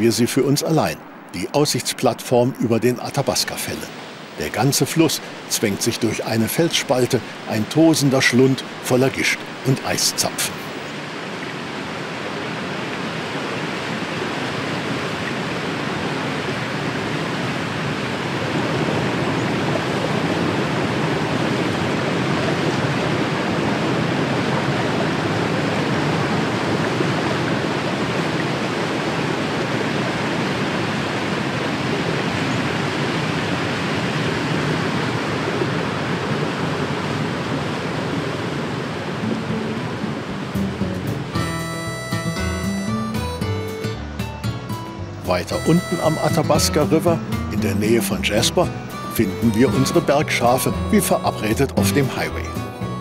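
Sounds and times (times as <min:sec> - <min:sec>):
waterfall roaring: 0:00.0 - 0:43.9, 0:45.2 - 0:53.0.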